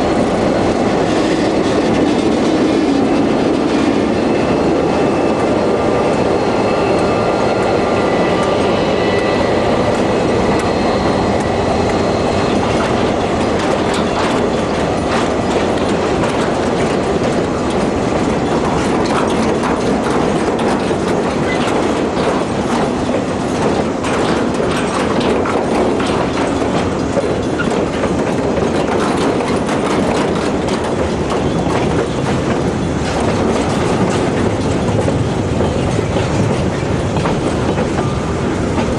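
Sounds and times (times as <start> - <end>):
train wheels clattering over joints: 0.0 - 38.9.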